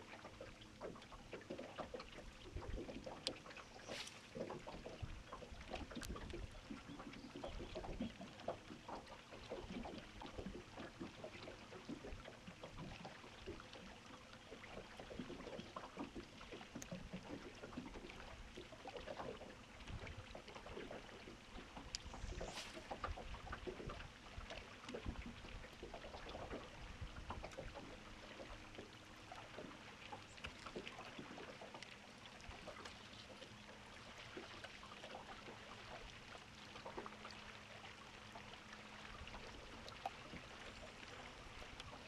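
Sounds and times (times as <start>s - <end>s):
ripples lapping against boat hull: 0.0s - 42.0s.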